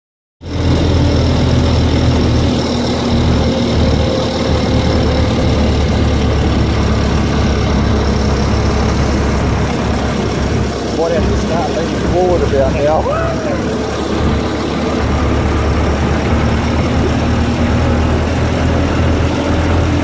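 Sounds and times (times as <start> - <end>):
car engine running: 0.4 - 20.0.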